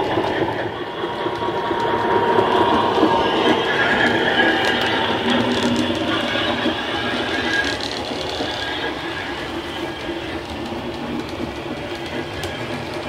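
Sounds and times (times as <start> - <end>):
model train wheels clicking on track: 0.0 - 13.0.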